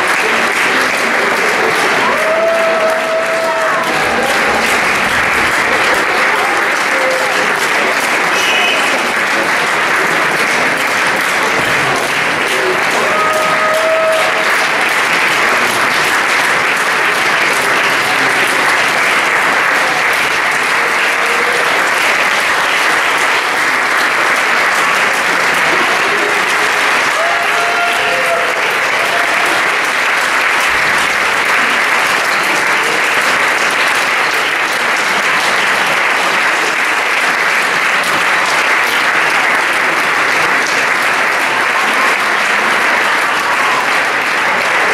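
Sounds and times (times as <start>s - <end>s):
audience applauding: 0.0s - 44.9s.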